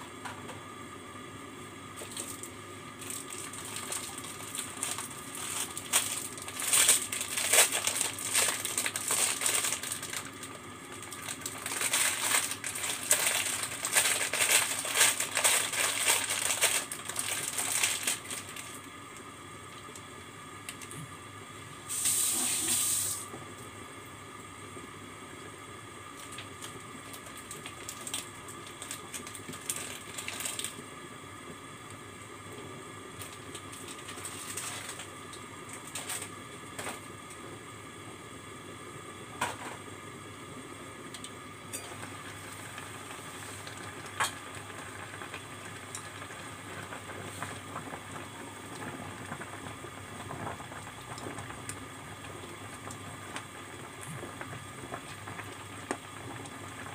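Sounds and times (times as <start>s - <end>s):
water boiling in covered pot: 0.0s - 56.9s.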